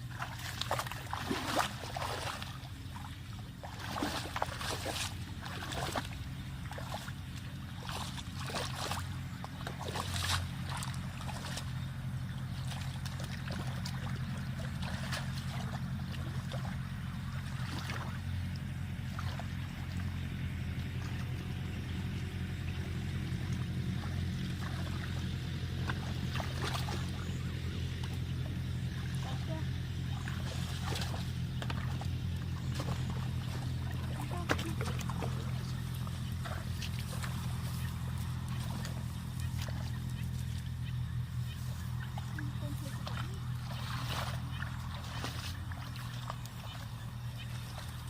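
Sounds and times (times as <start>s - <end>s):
water splashing and dripping: 0.0s - 20.0s, 22.7s - 40.7s, 41.4s - 48.0s
small boat engine running: 0.0s - 48.0s.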